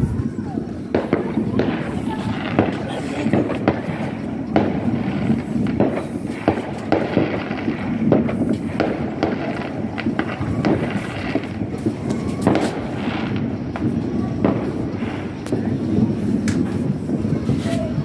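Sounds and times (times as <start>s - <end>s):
distant fireworks bangs: 0.0s - 18.0s.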